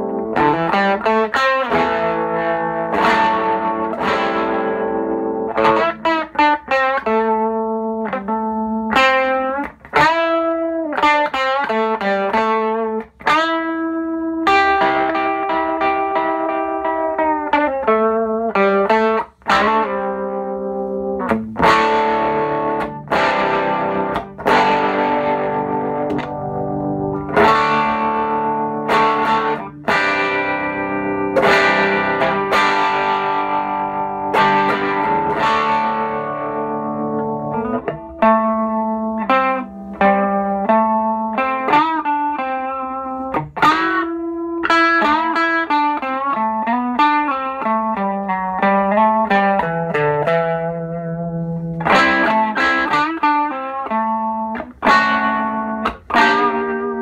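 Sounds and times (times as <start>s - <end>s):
electric guitar through amplifier: 0.0s - 57.0s.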